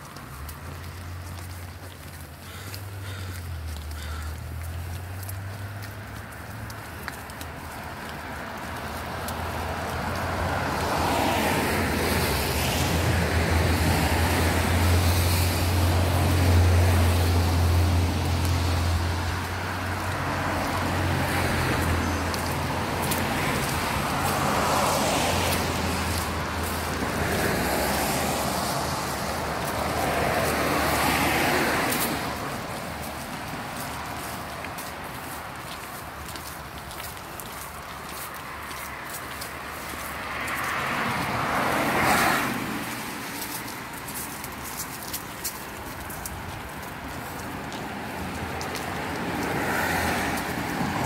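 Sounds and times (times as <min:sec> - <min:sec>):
cars passing with tyre hiss: 0:00.0 - 0:51.0.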